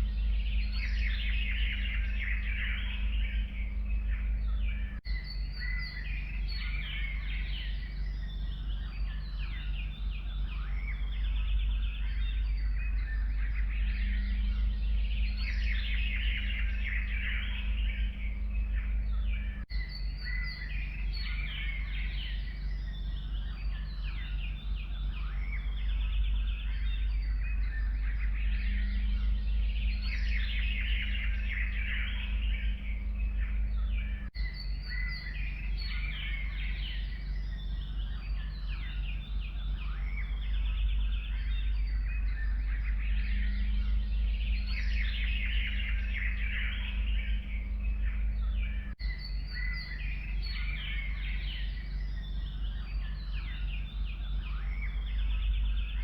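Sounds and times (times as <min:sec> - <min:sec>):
forest birds singing and chirping: 0:00.0 - 0:56.0
steady low rumble: 0:00.0 - 0:56.0.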